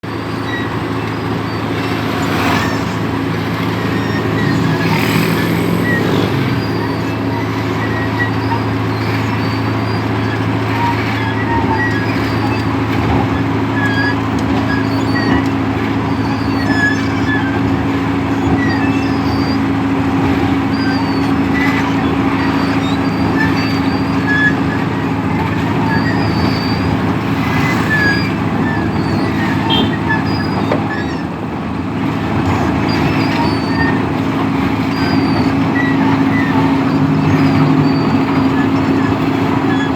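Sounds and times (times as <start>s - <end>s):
road milling machine engine drone: 0.0s - 39.9s
grinding wash: 1.2s - 39.9s.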